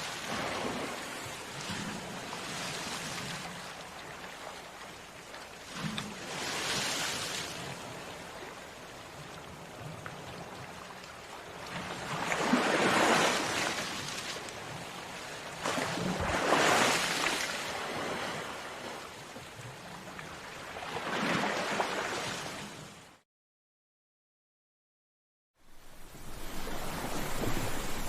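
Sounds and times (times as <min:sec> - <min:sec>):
sea waves breaking on shore: 0:00.0 - 0:23.2, 0:25.7 - 0:28.0.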